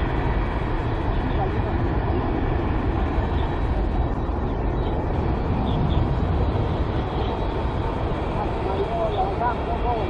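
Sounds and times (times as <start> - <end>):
jet engines at takeoff thrust: 0.0 - 10.0.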